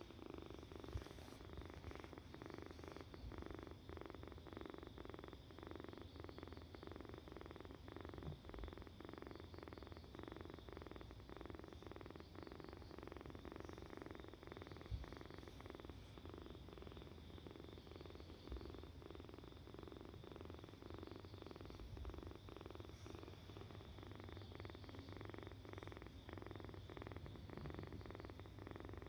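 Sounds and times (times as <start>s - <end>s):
kitten purring: 0.0s - 29.0s.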